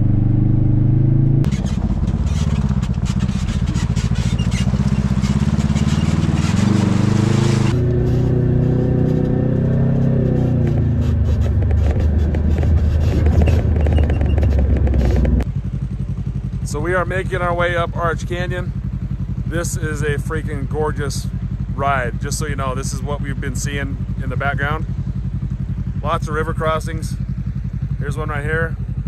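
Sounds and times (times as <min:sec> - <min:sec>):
utility vehicle engine running: 0:00.0 - 0:29.0.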